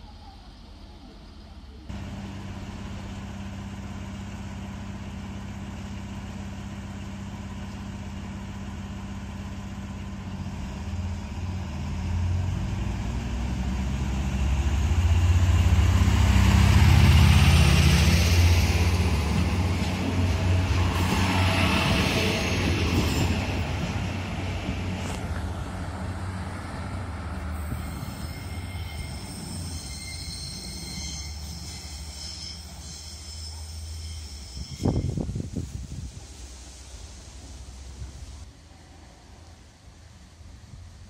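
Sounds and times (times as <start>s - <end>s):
diesel train engine: 0.0s - 41.0s
train rolling past: 0.1s - 41.0s.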